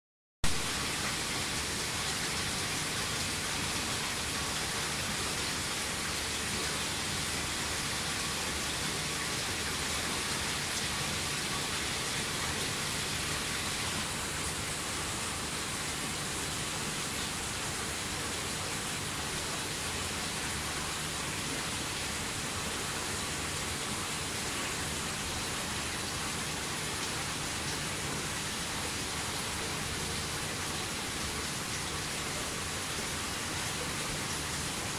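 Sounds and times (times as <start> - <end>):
aquarium water rushing: 0.4 - 34.9.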